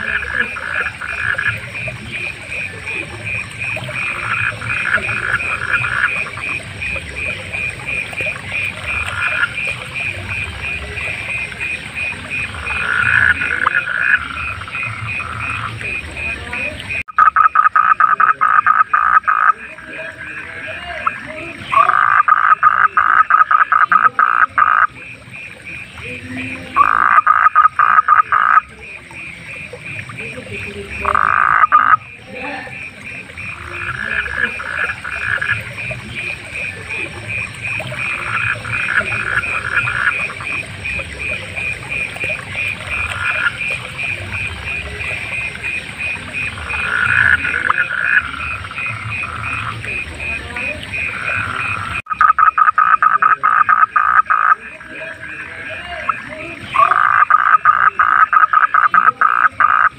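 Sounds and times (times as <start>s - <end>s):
frogs croaking: 0.0s - 59.9s
rapid pulsed frog trill: 0.0s - 59.9s.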